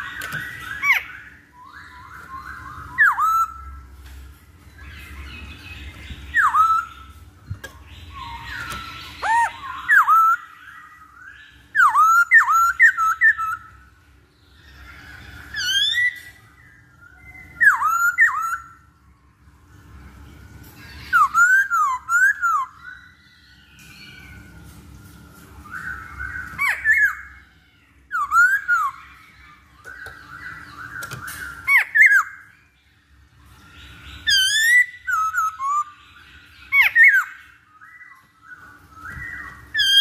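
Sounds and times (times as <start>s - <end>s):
bird calling with whistled notes: 0.0s - 3.9s, 4.7s - 13.8s, 14.6s - 18.9s, 20.8s - 32.8s, 33.5s - 40.0s
faint steady hum: 0.0s - 40.0s.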